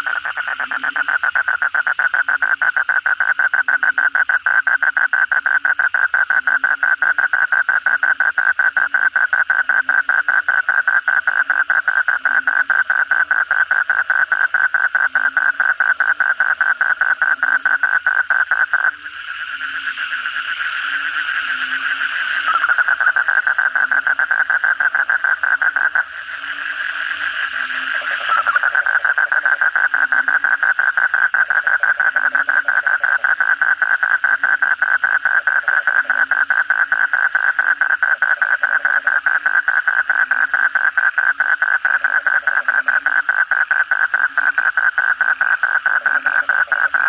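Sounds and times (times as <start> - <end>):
deeper frog call: 0.0 - 47.0.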